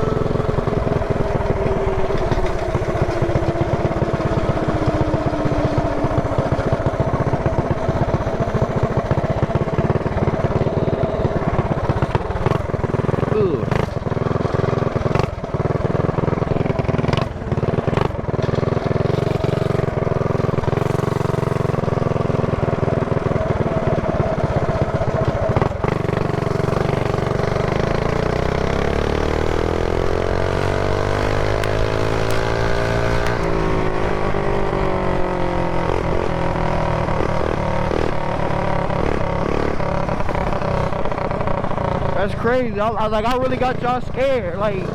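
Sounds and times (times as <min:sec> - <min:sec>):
small bike engine revving: 0:00.0 - 0:44.9.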